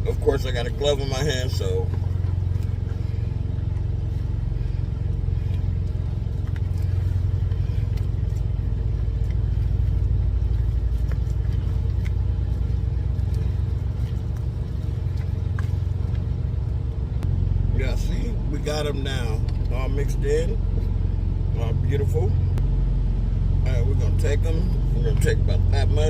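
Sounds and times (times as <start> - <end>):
engine idling hum: 0.0 - 26.0.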